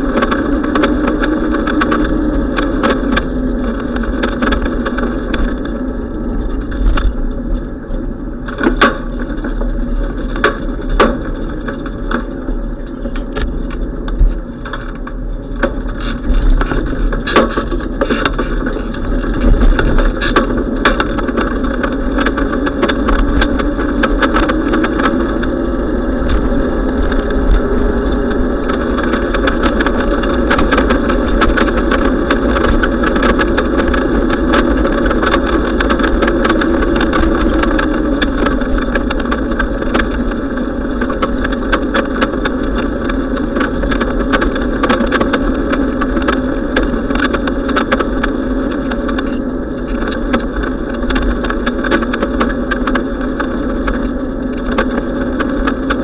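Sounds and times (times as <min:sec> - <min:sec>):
bicycle knocks and rattles: 0:00.0 - 0:56.0
wind and road rumble from bicycle: 0:00.0 - 0:56.0.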